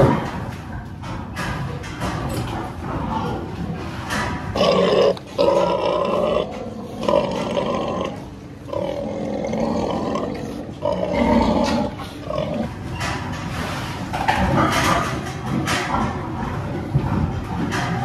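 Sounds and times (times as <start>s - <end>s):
pigs grunting: 2.6s - 18.0s.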